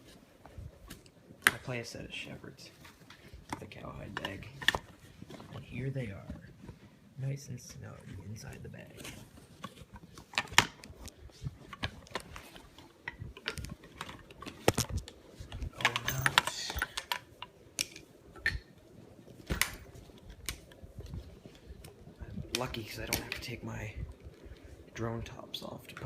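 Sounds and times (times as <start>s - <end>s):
small clicks taps and rustles: 2.7s - 6.9s, 7.6s - 26.0s.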